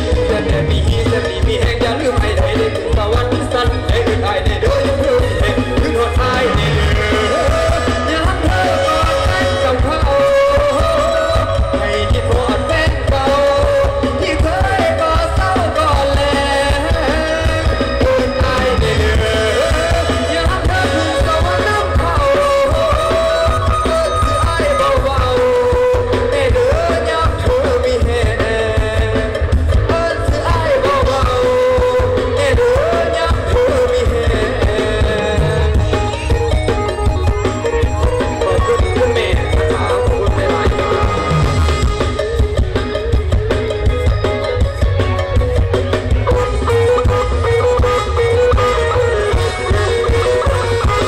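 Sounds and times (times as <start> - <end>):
lead voice singing: 0.0 - 36.4, 37.7 - 44.0, 45.9 - 51.0
live band playing folk-pop: 0.0 - 51.0.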